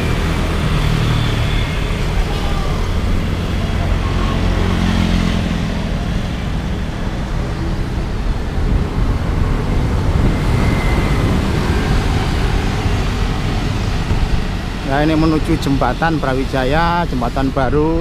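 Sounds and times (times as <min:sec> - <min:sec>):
cars and motorcycles passing: 0:00.0 - 0:18.0
city traffic noise: 0:00.0 - 0:18.0
wind rumble on microphone: 0:00.0 - 0:18.0.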